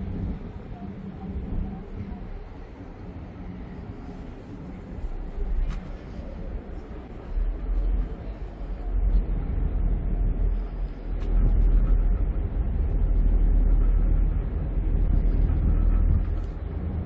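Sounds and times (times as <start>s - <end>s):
ferry engine rumble: 0.0s - 17.0s.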